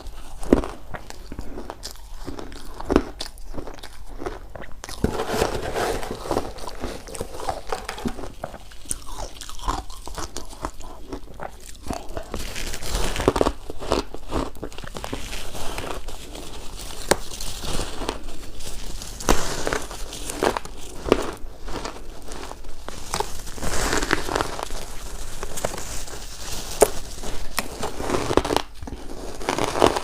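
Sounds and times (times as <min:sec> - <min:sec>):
person crunching shaved ice: 0:00.0 - 0:30.0.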